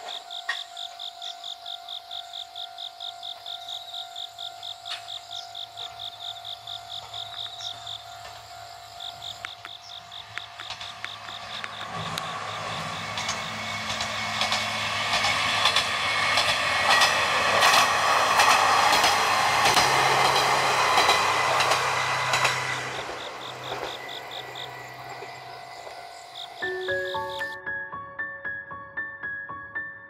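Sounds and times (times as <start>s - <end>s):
diesel railcar engine: 0.0s - 27.6s
wheels clicking over rail joints: 3.1s - 27.6s.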